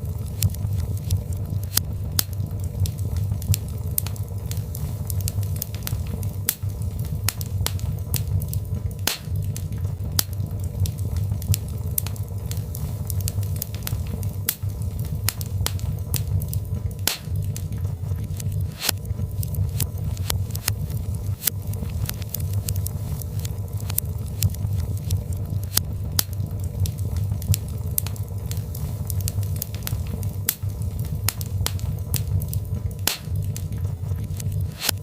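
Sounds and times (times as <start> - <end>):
logs crackling and popping in fire: 0.0 - 35.0
low fire rumble: 0.0 - 35.0.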